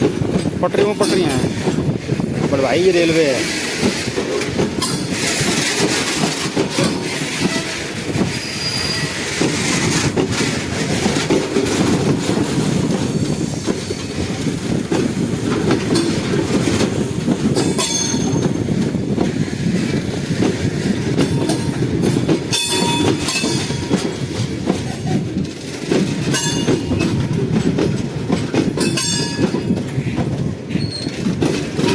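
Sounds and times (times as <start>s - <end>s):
train wheels rumbling on track: 0.0s - 31.9s
wheels clacking over rail joints: 0.0s - 31.9s.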